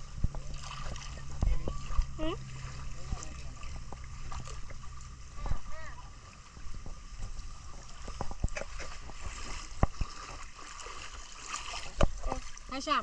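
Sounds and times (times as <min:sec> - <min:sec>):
wind rumble on microphone: 0:00.0 - 0:12.7
water rushing: 0:00.0 - 0:13.0.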